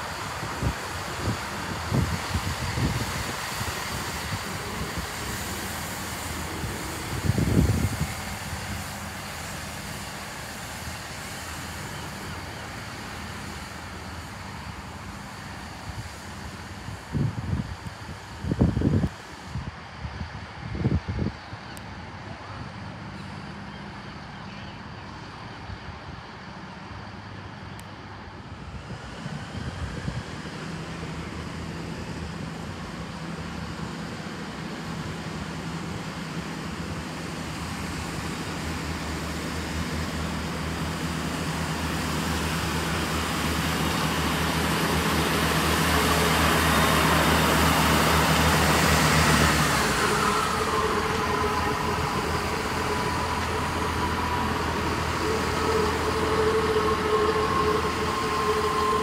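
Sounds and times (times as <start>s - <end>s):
diesel train engine: 0.0s - 59.0s
train wheel noise: 0.0s - 59.0s.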